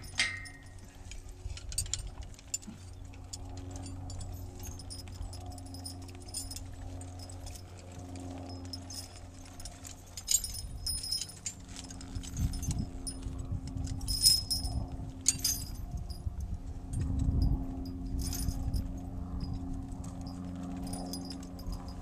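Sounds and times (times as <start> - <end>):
low rumbling: 0.0 - 22.0
metal harness jingling: 0.0 - 22.0
steady low hum: 0.0 - 22.0.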